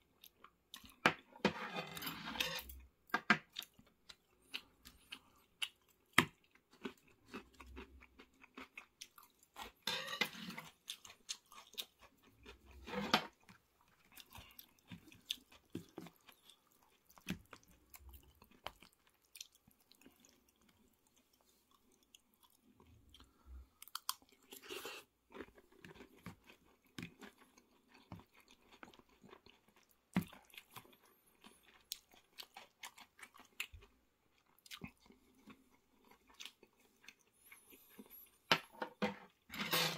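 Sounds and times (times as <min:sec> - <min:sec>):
close chewing: 0:03.5 - 0:38.4.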